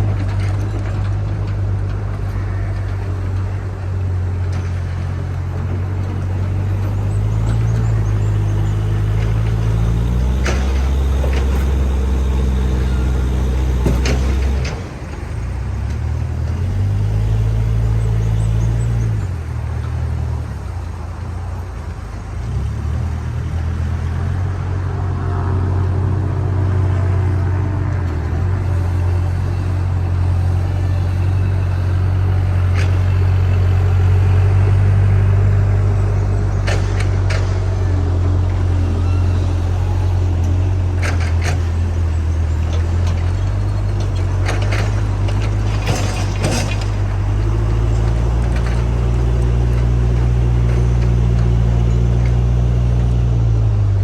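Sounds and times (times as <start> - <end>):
heavy diesel engine working: 0.0 - 54.0.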